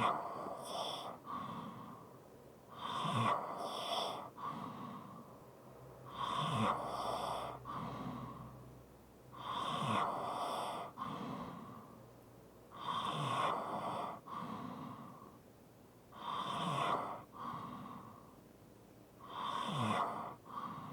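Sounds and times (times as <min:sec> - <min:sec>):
person breathing heavily and snoring: 0:00.0 - 0:05.4, 0:06.0 - 0:12.1, 0:12.7 - 0:15.4, 0:16.1 - 0:18.4, 0:19.2 - 0:20.9.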